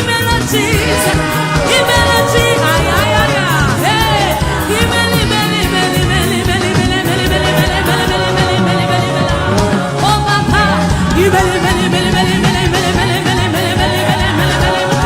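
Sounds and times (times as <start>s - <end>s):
band with bass and drums: 0.0s - 15.0s
person singing gospel: 0.1s - 15.0s.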